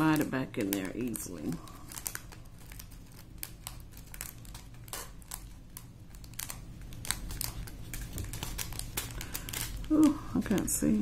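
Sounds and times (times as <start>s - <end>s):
plastic crinkling: 0.0s - 11.0s.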